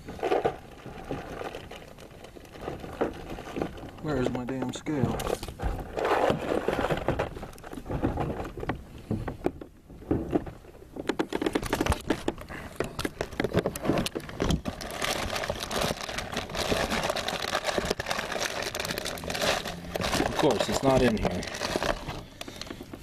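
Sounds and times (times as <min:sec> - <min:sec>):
rummaging through gear and bag: 0:00.0 - 0:08.8, 0:11.1 - 0:23.0.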